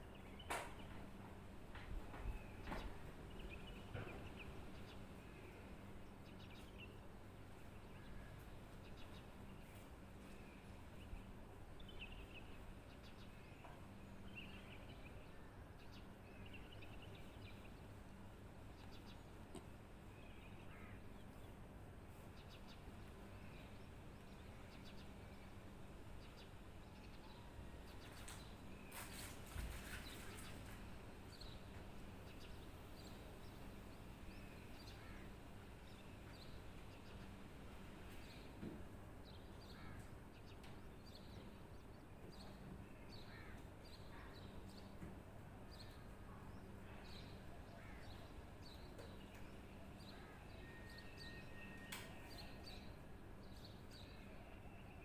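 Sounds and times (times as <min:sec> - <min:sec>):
low steady background hum: 0:00.0 - 0:55.0.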